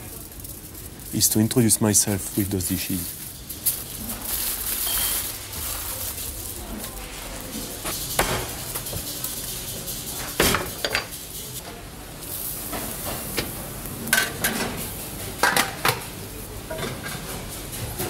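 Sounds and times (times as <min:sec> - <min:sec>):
steady kitchen hiss: 0:00.0 - 0:18.0.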